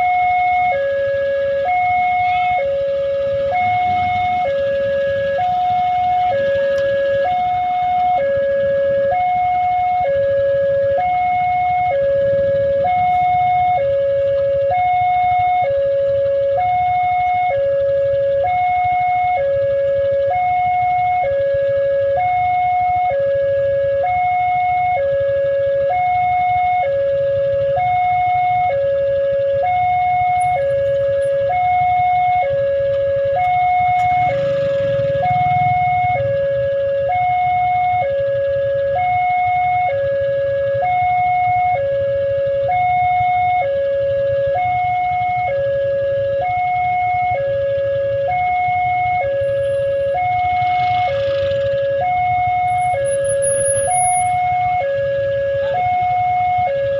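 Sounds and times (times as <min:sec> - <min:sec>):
two-tone crossing warning siren: 0:00.0 - 0:56.9.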